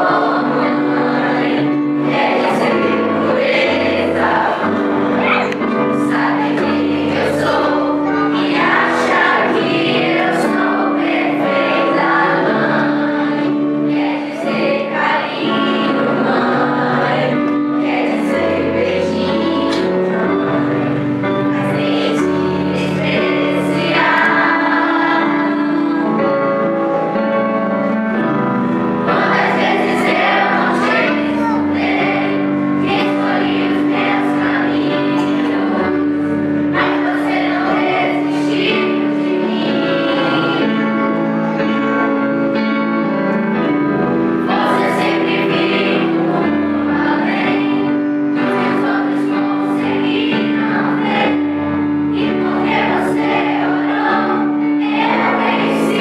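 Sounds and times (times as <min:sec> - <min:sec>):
children's choir singing: 0:00.0 - 0:56.0
keyboard chords: 0:00.0 - 0:56.0.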